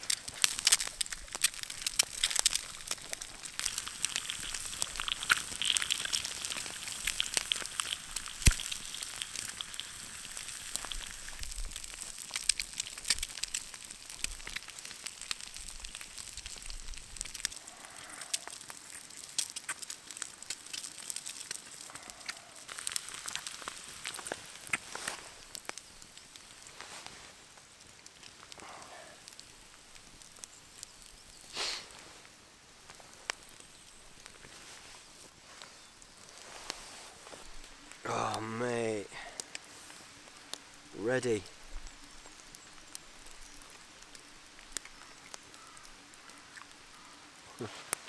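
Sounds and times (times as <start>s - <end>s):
eggs sizzling in oil: 0.0s - 48.0s
wood fire crackling and popping: 0.0s - 48.0s.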